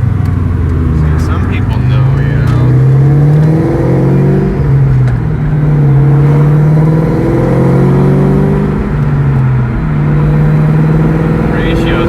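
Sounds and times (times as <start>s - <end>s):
car engine under load while driving: 0.0s - 12.0s.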